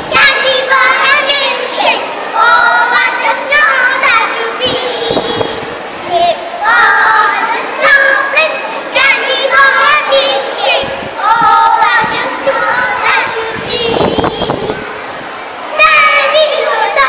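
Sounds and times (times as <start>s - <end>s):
girls singing together: 0.0s - 17.0s.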